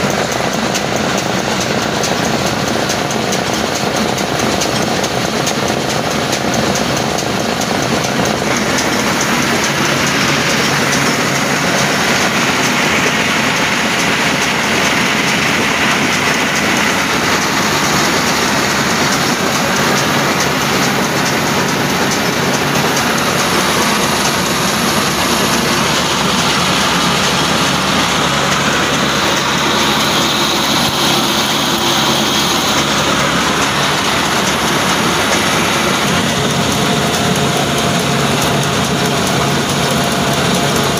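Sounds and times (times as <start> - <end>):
diesel engine running: 0.0 - 40.9
spinning pulleys: 0.0 - 40.9
grinder whirring: 6.6 - 40.9.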